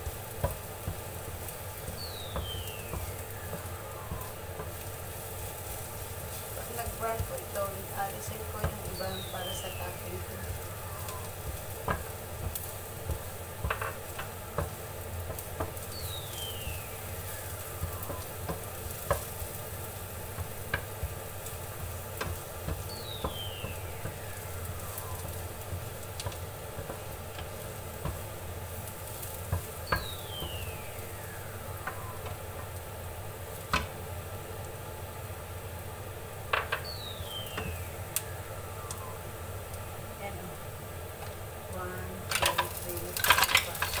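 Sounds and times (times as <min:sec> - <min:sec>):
garlic sizzling in oil: 0:00.0 - 0:44.0.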